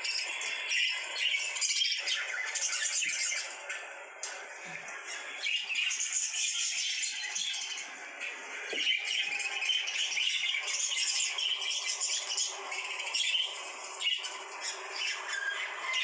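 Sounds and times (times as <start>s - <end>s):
lovebirds chattering and squawking: 0.0s - 16.0s.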